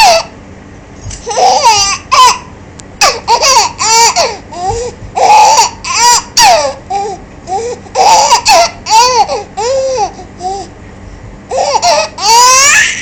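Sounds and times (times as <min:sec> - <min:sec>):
baby laughing: 0:00.0 - 0:00.3, 0:01.2 - 0:07.2, 0:07.9 - 0:10.7, 0:11.5 - 0:13.0.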